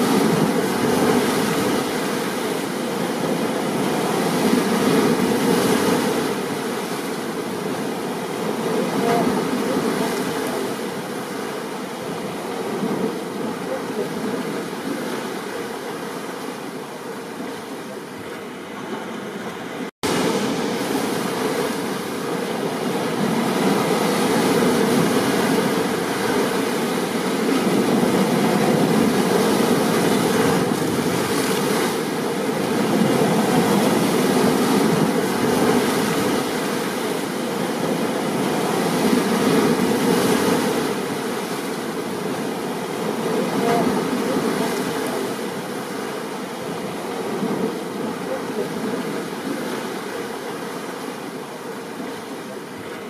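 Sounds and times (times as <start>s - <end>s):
steady rain: 0.0s - 18.0s, 20.0s - 53.0s
stormy ocean surf: 0.0s - 53.0s.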